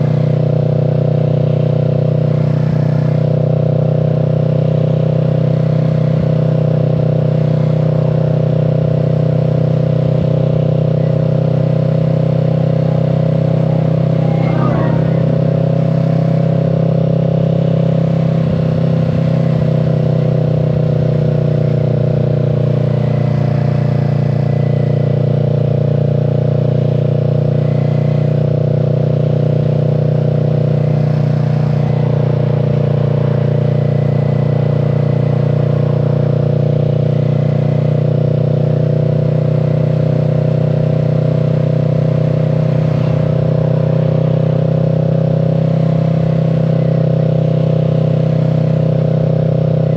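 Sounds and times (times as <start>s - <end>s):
motorcycle engine running steadily: 0.0s - 49.9s.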